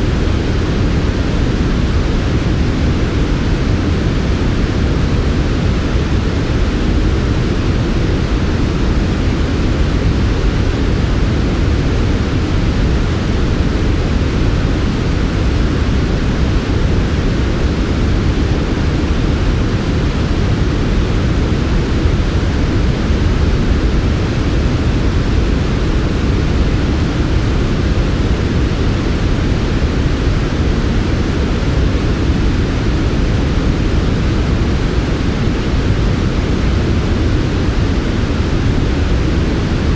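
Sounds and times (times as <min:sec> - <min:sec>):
low rumbling white noise: 0:00.0 - 0:39.9.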